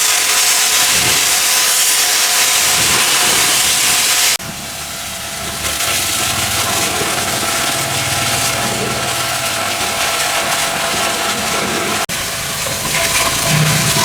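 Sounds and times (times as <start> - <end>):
pressure washer spray hissing: 0.0 - 14.0
motor hum: 2.6 - 14.0.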